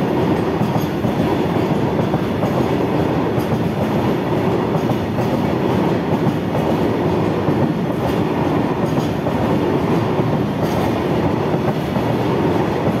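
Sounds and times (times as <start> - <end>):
steel train wheels on rails: 0.0 - 13.0.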